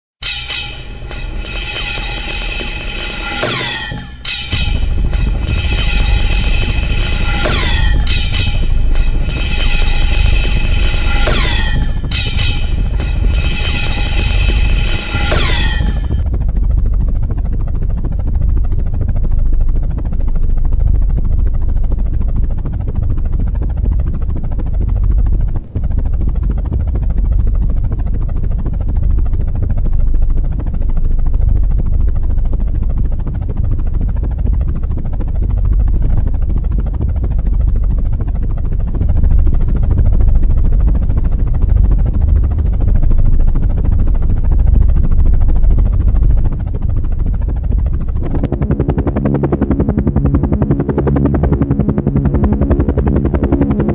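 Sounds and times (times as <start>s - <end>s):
helicopter rotor and turbine rumble: 0.2s - 53.9s.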